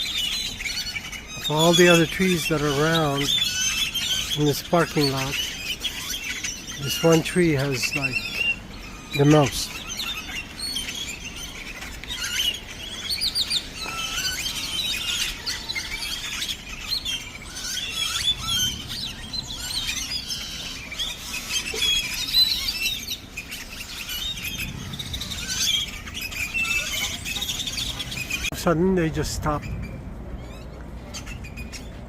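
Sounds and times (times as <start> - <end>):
flock of birds chirping: 0.0 - 32.0.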